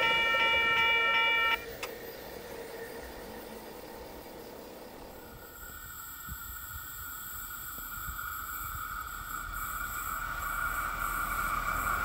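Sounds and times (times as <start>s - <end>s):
train hum: 0.0s - 12.0s
train low rumble: 0.0s - 12.0s.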